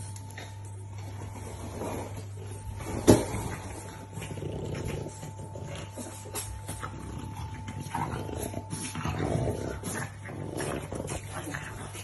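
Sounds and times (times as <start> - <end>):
steady low hum: 0.0 - 12.0
dogs growling: 1.2 - 12.0.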